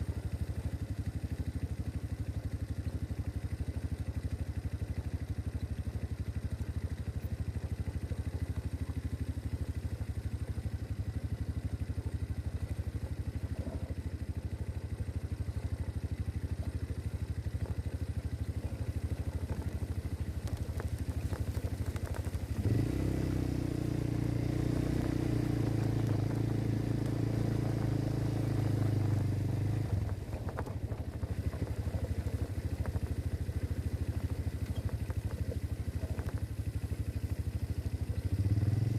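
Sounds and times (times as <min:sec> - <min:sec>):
quad engine idling and revving: 0:00.0 - 0:38.9.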